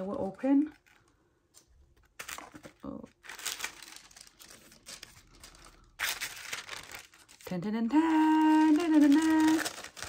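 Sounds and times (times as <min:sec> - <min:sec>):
wrapping paper rustling and crinkling: 0:00.0 - 0:10.0.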